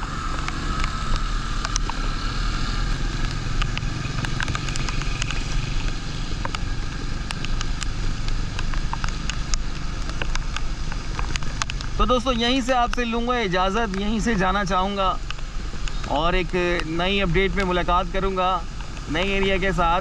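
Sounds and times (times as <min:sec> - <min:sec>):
motorcycle engine running: 0:00.0 - 0:20.0
raindrops ticking on camera: 0:00.0 - 0:20.0
wet tyres and rain hiss: 0:00.0 - 0:20.0.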